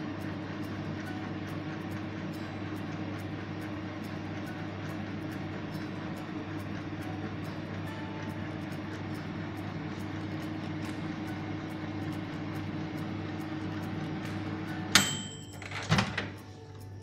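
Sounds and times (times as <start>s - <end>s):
microwave timer bell ding: 0.0s - 16.5s
microwave oven humming: 0.0s - 17.0s.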